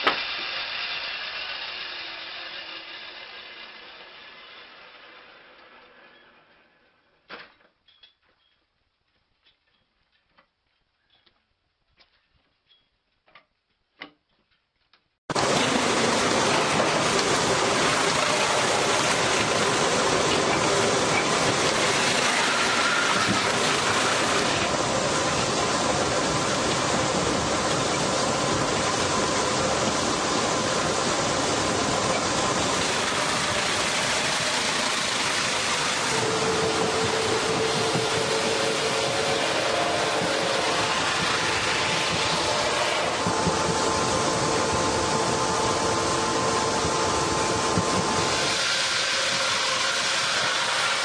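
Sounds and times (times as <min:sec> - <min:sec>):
sawmill machinery running: 0:00.0 - 0:06.9, 0:15.3 - 0:51.0.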